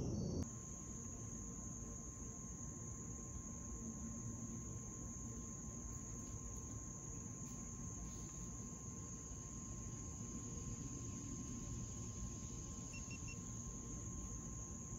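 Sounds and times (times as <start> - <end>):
crickets trilling: 0.0 - 14.9
faint woodland background: 0.0 - 14.9.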